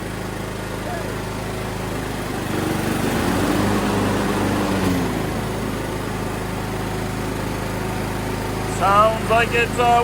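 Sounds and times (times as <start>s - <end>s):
riding mower engine running: 0.0s - 10.0s.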